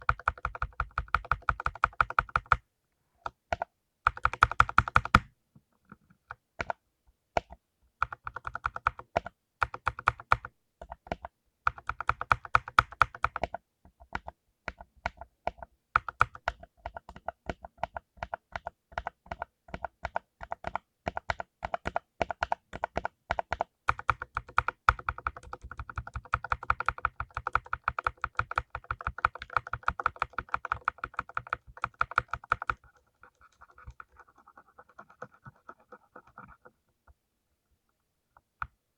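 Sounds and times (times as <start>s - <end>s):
mechanical keyboard typing: 0.0s - 2.6s, 3.2s - 5.3s, 7.4s - 36.6s.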